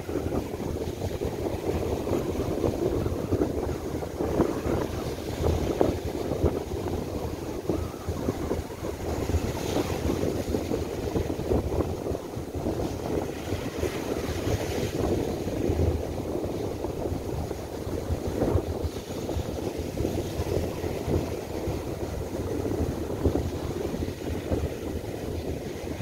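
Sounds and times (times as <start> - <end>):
gusty wind buffeting microphone: 0.0 - 26.0
surf breaking on beach: 0.0 - 26.0.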